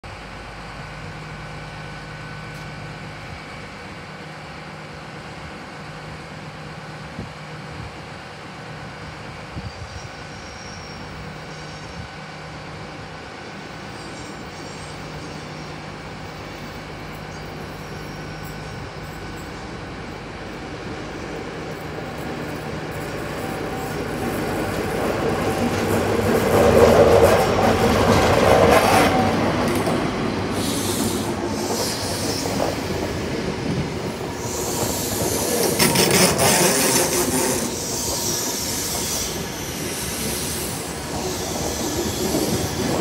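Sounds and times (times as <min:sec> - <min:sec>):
diesel train engine hum: 0:00.0 - 0:43.0.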